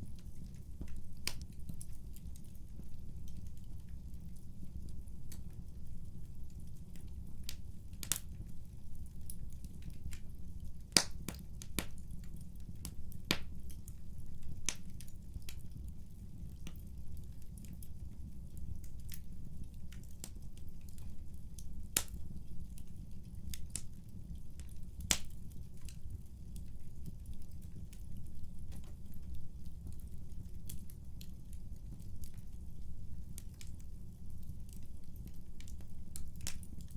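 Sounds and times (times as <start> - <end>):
fire crackling and popping: 0.0 - 36.9
low rumble of flames: 0.0 - 36.9.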